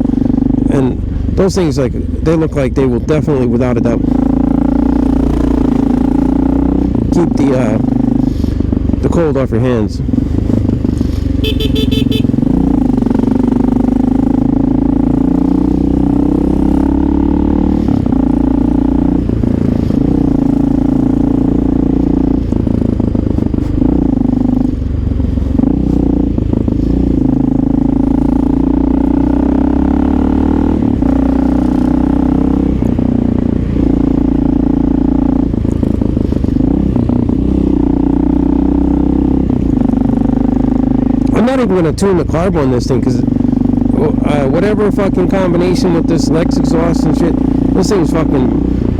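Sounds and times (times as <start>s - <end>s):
motorcycle engine purring: 0.0s - 48.9s.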